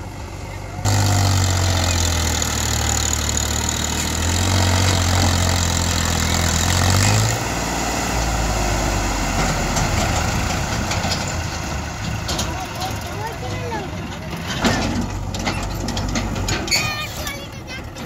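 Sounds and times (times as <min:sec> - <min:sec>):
tractor diesel engine straining: 0:00.0 - 0:18.0.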